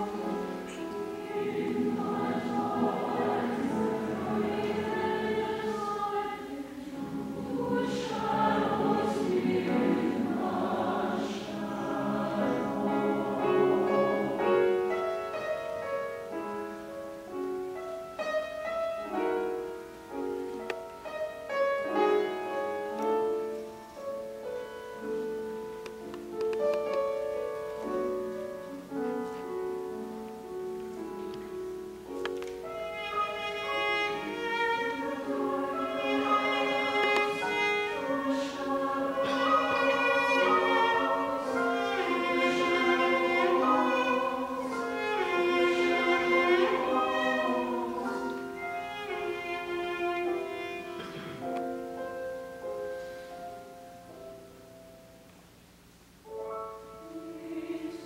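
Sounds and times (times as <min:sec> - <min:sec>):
cello melody: 0:00.0 - 0:52.1
classical choral music: 0:00.0 - 0:58.0.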